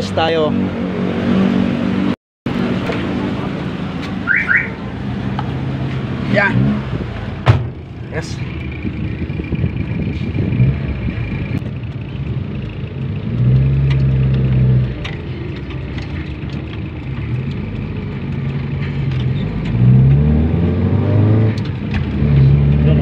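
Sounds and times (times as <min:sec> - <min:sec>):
car engine from inside cabin: 0:01.5 - 0:23.0.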